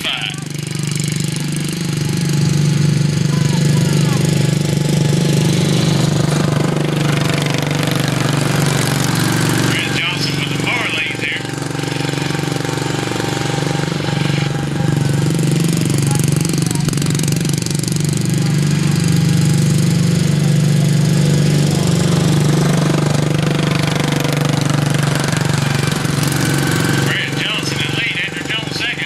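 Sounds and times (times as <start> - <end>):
racing lawnmower engines buzzing: 0.0 - 29.0.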